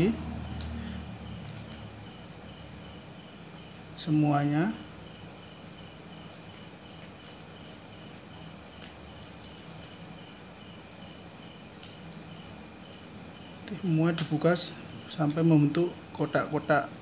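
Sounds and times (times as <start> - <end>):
high-pitched insect trilling: 0.0 - 17.0.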